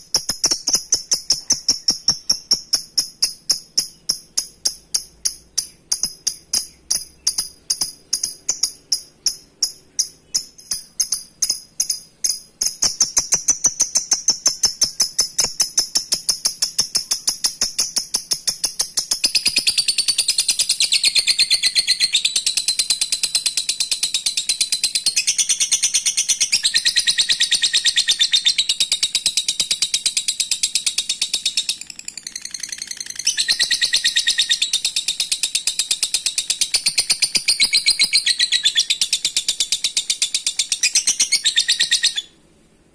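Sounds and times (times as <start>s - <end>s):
lovebird chattering trill: 0.0s - 42.4s.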